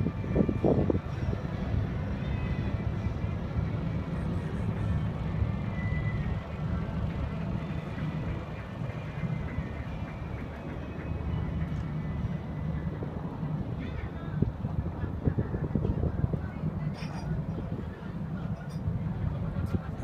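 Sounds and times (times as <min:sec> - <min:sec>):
boat engine rumble: 0:00.0 - 0:20.0
wind and water rushing: 0:00.0 - 0:20.0.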